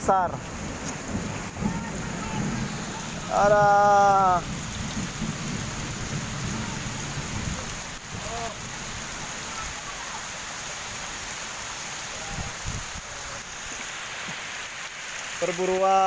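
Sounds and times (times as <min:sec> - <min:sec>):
heavy rain on leaves: 0:00.0 - 0:16.0.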